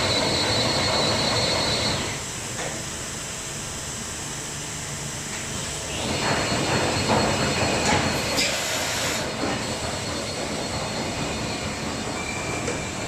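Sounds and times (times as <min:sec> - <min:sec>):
machining center running: 0:00.0 - 0:03.0, 0:04.4 - 0:13.0.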